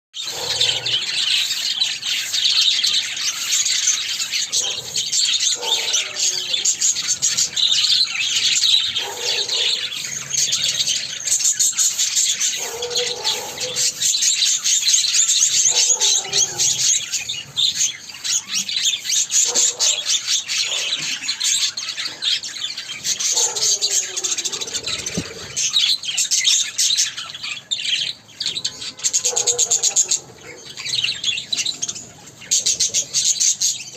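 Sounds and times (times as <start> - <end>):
birds chirping and chattering: 0.1 - 33.9
low warbling bird calls: 0.2 - 33.9.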